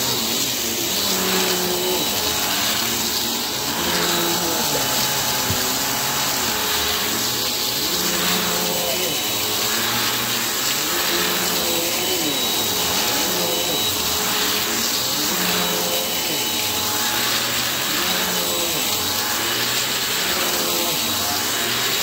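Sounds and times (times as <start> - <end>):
vacuum cleaner on rug: 0.0 - 22.0.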